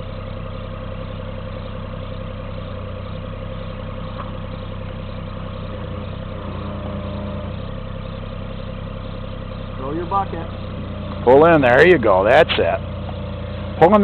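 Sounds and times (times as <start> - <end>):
excavator diesel engine running: 0.0 - 14.0
hydraulics low hum: 0.0 - 14.0.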